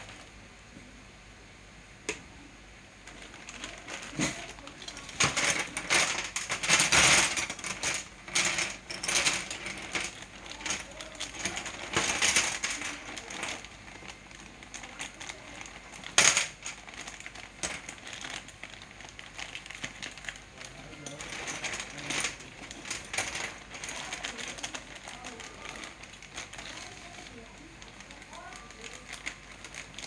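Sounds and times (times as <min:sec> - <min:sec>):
small hard objects clattering: 0:03.1 - 0:30.0.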